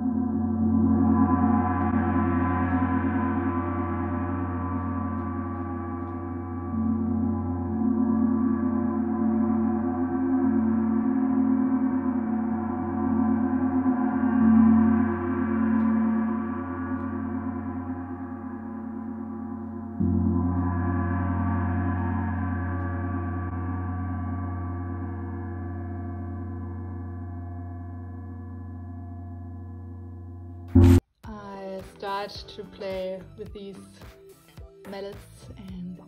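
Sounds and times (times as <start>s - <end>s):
gong ringing: 0.0s - 31.0s.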